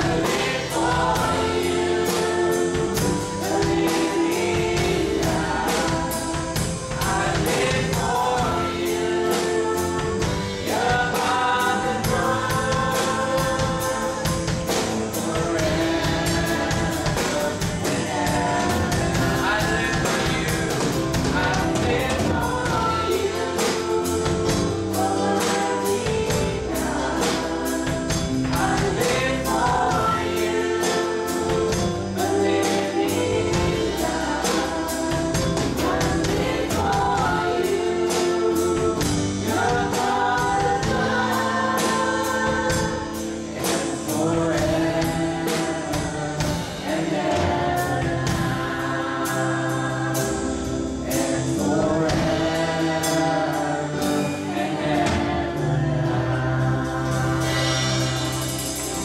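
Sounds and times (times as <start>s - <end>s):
drum kit beat: 0.0s - 59.0s
keyboard: 0.0s - 59.0s
voices singing together: 0.0s - 59.0s.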